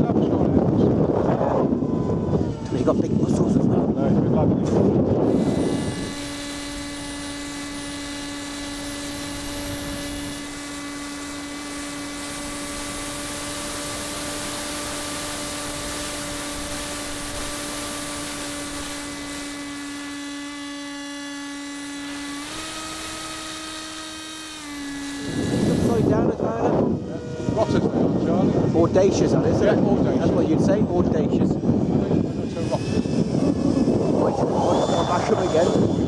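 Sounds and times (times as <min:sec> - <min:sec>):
model aircraft motor whining: 0:00.0 - 0:36.0.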